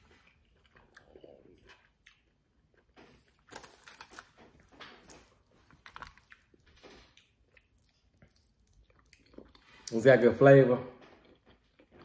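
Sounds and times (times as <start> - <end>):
chewing: 0.0 - 10.0, 11.0 - 12.0.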